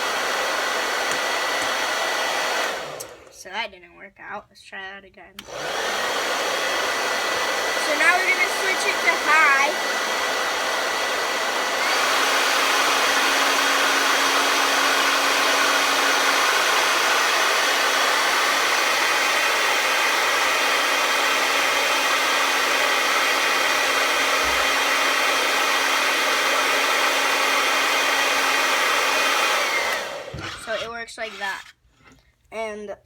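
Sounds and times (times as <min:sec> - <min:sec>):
blow dryer running: 0:00.0 - 0:03.4, 0:05.4 - 0:31.8.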